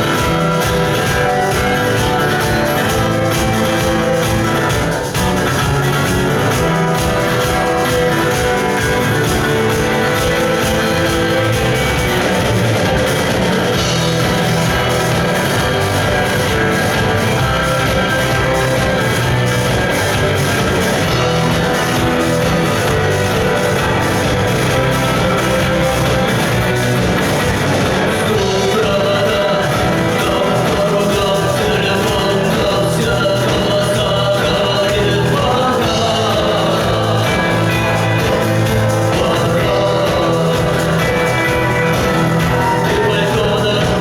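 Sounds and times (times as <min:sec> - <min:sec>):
person singing: 0:00.0 - 0:44.0
rock band playing live: 0:00.0 - 0:44.0.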